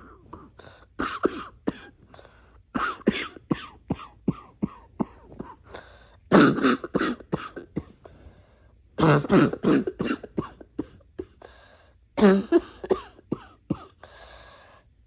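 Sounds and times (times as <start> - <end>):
person coughing: 0.0 - 8.3, 9.0 - 11.4, 12.2 - 14.0.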